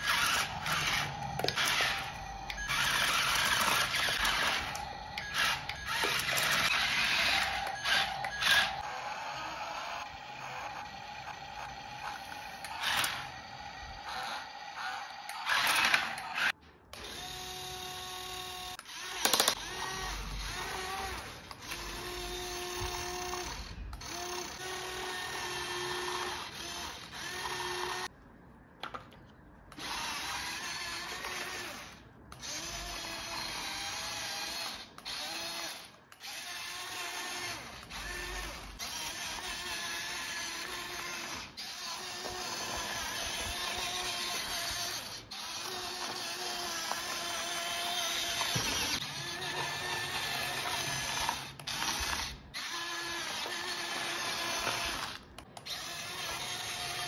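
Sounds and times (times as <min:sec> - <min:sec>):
toy electric motors whining: 0:00.0 - 0:28.1, 0:29.7 - 0:57.0.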